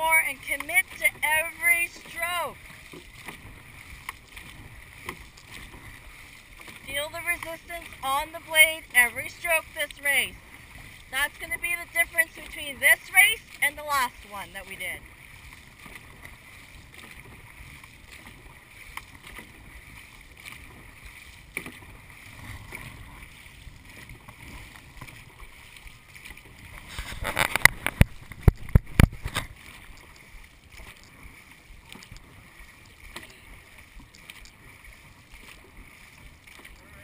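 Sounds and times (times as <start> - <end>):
water rushing and paddling: 0.0 - 37.0.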